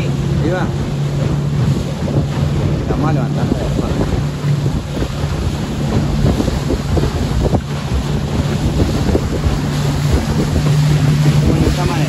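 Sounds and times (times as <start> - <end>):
outboard motor running: 0.0 - 12.0
water rushing from wake: 0.0 - 12.0
wind buffeting microphone: 0.0 - 12.0.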